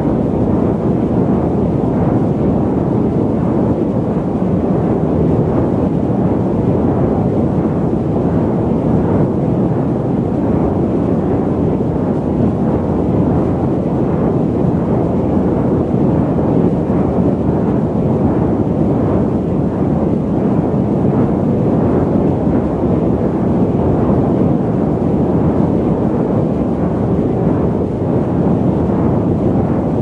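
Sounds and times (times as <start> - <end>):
airliner rumble in flight: 0.0 - 30.0.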